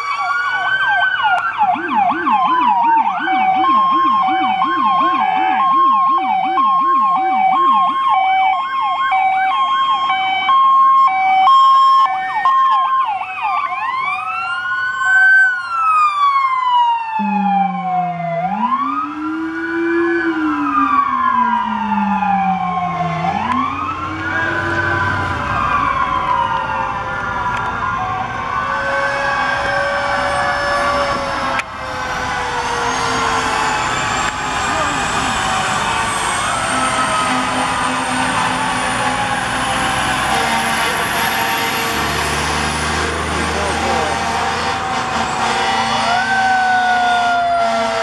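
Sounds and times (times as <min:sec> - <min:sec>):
deeper siren wail: 0:00.0 - 0:48.0
emergency vehicle sirens: 0:00.0 - 0:48.0.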